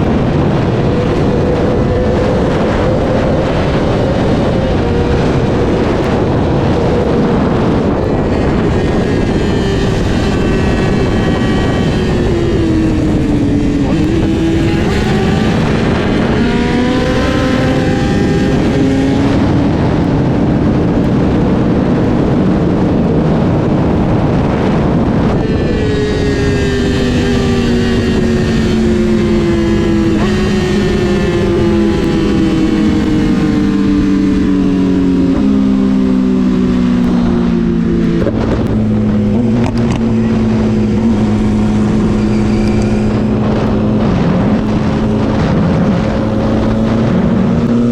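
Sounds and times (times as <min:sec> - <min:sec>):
motorcycle engine shifting gears: 0:00.0 - 0:47.9
wind noise: 0:00.0 - 0:47.9.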